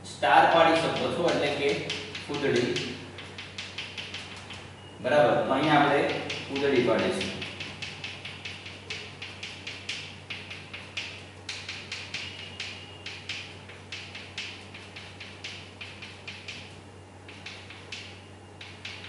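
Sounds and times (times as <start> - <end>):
chalk tapping on blackboard: 0.6 - 4.7, 5.6 - 19.0.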